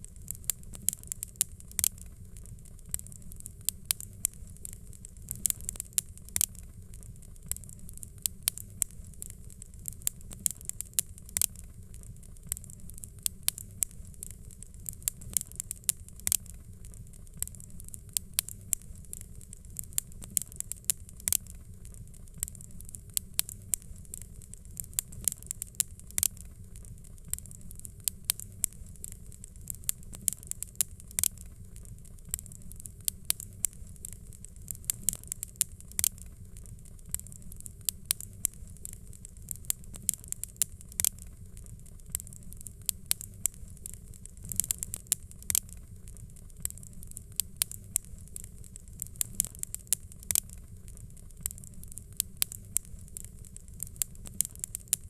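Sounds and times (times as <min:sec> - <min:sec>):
fireplace fire crackling: 0:00.0 - 0:55.0
low steady rumble: 0:00.0 - 0:55.0.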